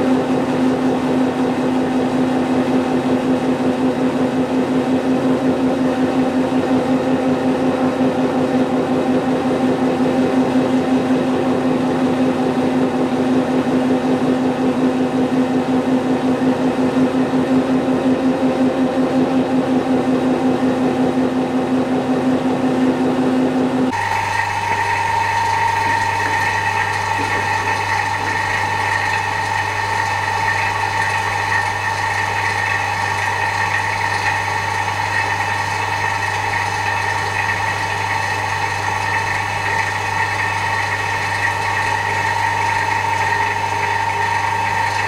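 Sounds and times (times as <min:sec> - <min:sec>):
steady machine hum: 0:00.0 - 0:45.0.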